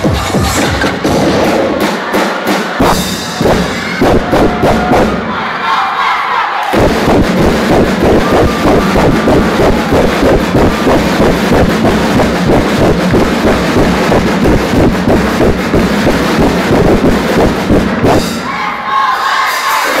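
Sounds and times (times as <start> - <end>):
dance music over loudspeakers: 0.0 - 5.6, 6.7 - 20.0.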